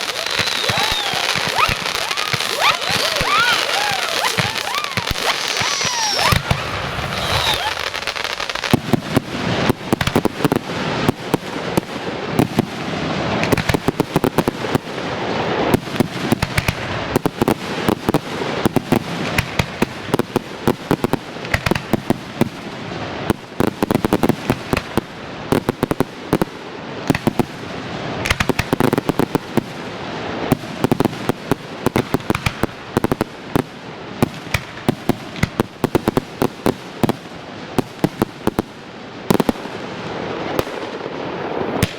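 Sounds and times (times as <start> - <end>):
firework bangs: 0.0 - 41.9
fireworks crackling: 0.0 - 41.9.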